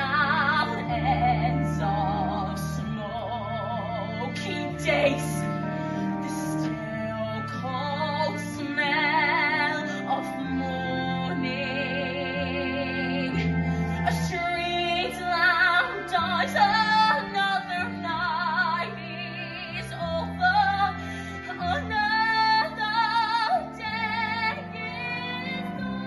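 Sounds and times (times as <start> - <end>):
woman singing a slow ballad: 0.0 - 5.6, 6.2 - 26.0
sustained low accompaniment notes: 0.0 - 26.0.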